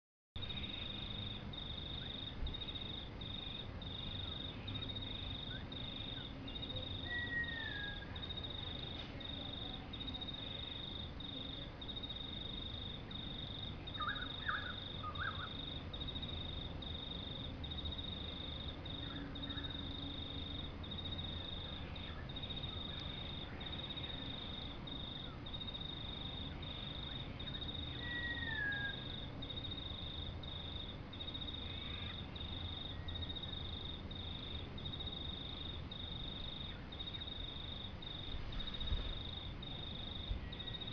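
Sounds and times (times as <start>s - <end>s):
insect chirping: 0.4s - 40.9s.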